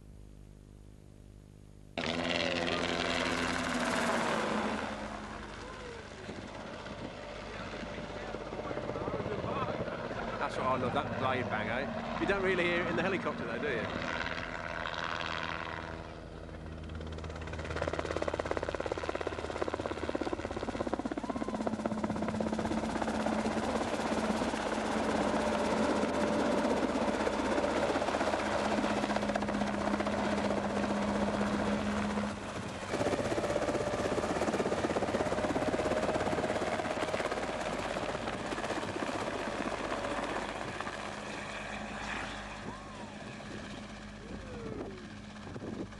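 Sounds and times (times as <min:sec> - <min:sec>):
helicopter engine and rotor: 0:02.0 - 0:45.9.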